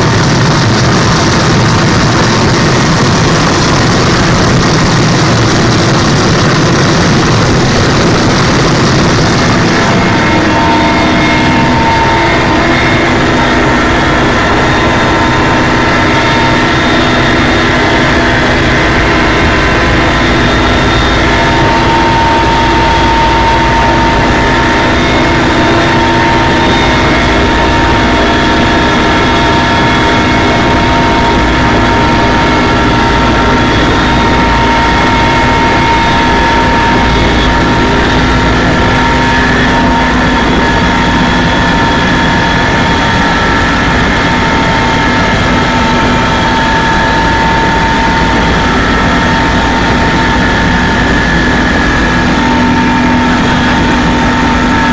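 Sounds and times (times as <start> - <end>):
helicopter engine and rotor noise: 0.0 - 54.9
whining tones: 0.0 - 54.9.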